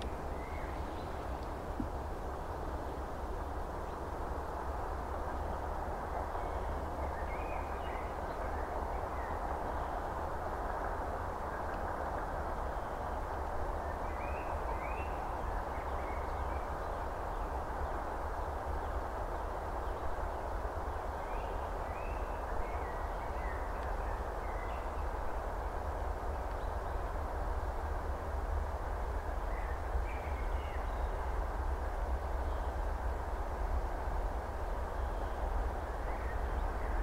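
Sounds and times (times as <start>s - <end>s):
distant diesel locomotive rumble: 0.0s - 37.0s.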